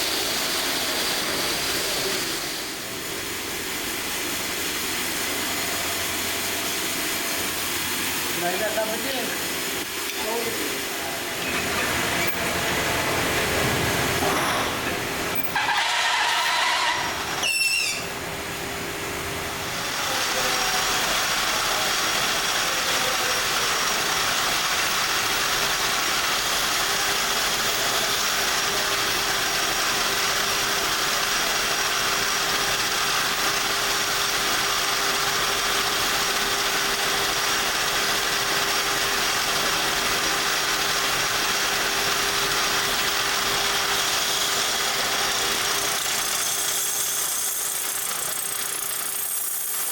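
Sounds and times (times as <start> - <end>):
machinery humming and hissing: 0.0 - 49.9.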